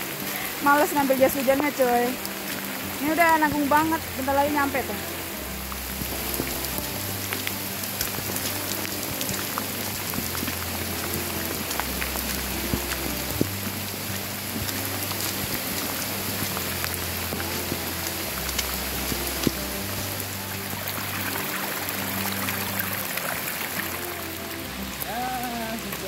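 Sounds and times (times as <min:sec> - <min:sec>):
sharp raindrop ticks: 0:00.0 - 0:26.0
steady rain hiss: 0:00.0 - 0:26.0.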